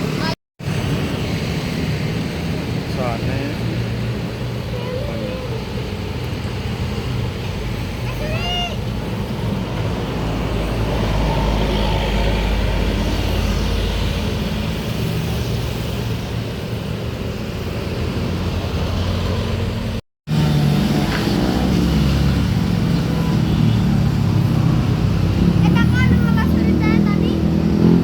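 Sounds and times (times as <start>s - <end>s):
road noise: 0.0s - 28.0s
traffic noise: 0.0s - 28.0s.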